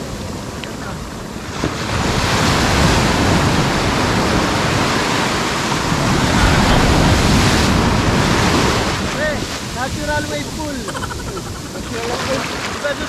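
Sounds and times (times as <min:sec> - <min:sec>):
sea surf breaking on beach: 0:00.0 - 0:13.0.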